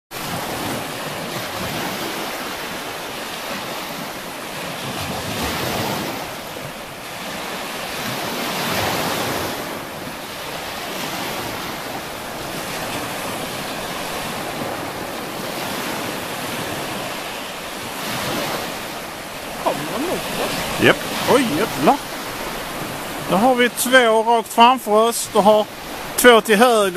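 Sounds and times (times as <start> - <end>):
sea waves washing onto shore: 0.1 - 26.9.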